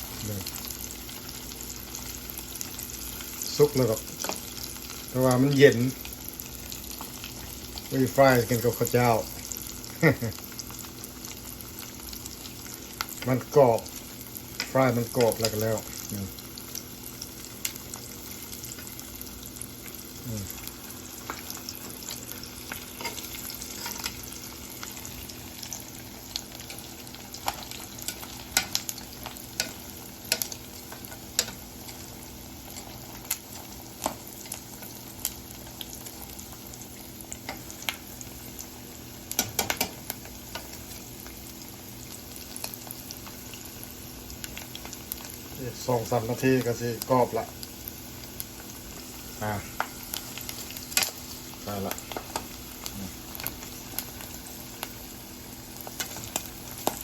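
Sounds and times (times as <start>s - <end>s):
chicken sizzling in hot oil: 0.0s - 57.0s
oil popping and crackling: 0.0s - 57.0s.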